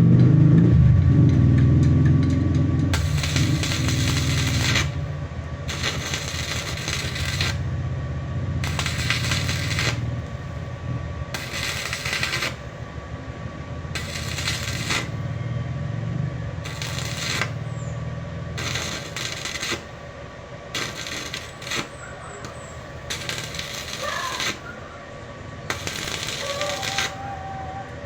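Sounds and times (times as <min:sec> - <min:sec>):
steady low hum: 0:00.0 - 0:28.0
welding arc crackling: 0:02.9 - 0:15.4, 0:16.6 - 0:25.0, 0:25.7 - 0:27.8.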